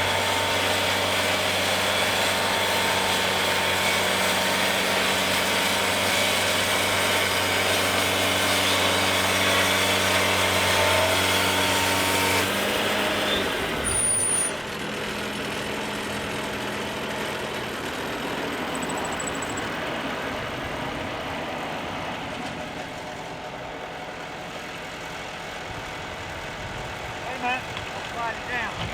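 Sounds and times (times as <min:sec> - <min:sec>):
portable sawmill engine running: 0:00.0 - 0:28.9.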